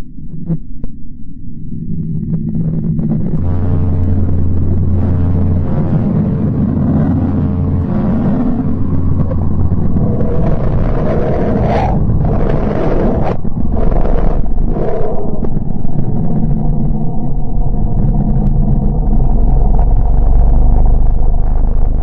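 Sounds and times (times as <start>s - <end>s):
low rumbling drone: 0.0s - 22.0s
noisy rushing texture: 1.8s - 22.0s.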